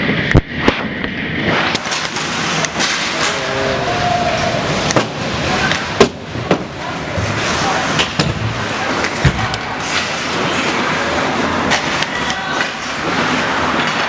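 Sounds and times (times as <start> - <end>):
crowd noise: 1.7 - 14.0.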